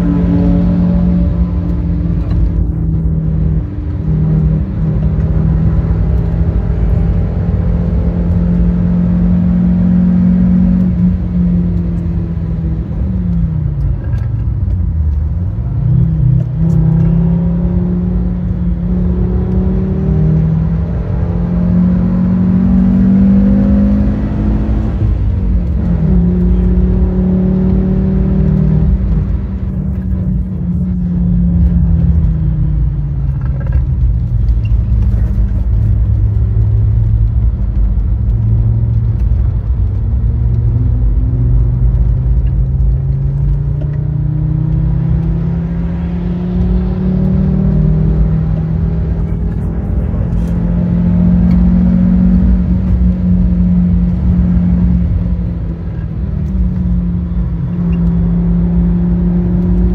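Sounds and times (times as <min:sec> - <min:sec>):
car engine running: 0:00.0 - 0:59.9
low road rumble: 0:00.0 - 0:59.9.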